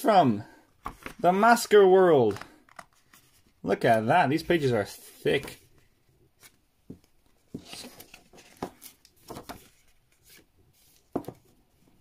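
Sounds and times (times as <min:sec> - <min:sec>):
paper pages rustling: 0:00.8 - 0:01.2, 0:02.3 - 0:11.5.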